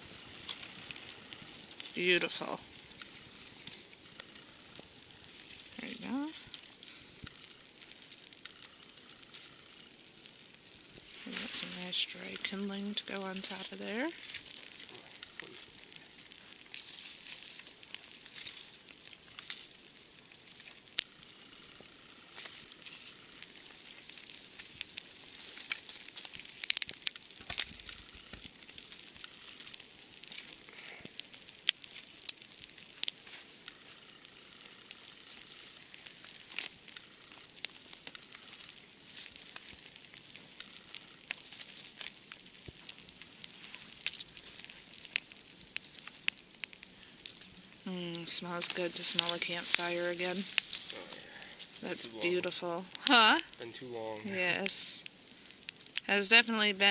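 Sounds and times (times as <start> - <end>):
campfire crackling: 0.0 - 56.9
dry sticks and leaves rustling: 0.0 - 56.9
sharp pops of fire: 0.0 - 56.9.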